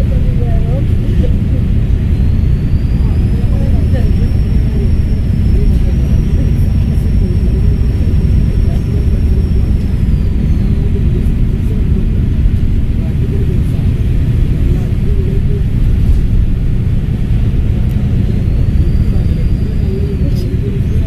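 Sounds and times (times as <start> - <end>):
bus diesel engine rumble: 0.0 - 21.0
high turbo whistle: 1.7 - 14.4, 15.6 - 21.0.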